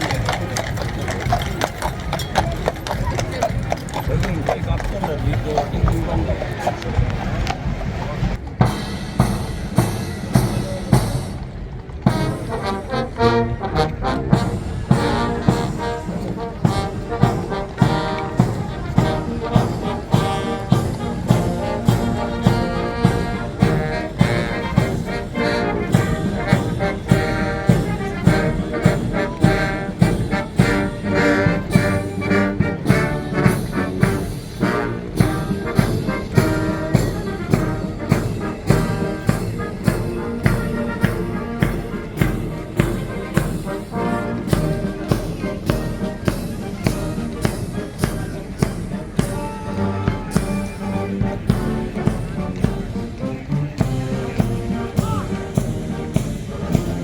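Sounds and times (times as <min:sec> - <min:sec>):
brass band playing a march: 0:00.0 - 0:06.2, 0:07.3 - 0:57.0
steady drum beat: 0:08.3 - 0:13.4, 0:14.3 - 0:57.0.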